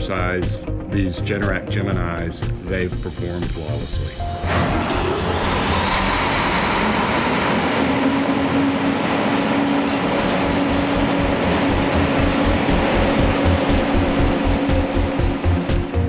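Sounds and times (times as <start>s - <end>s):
generators droning: 0.0s - 16.0s.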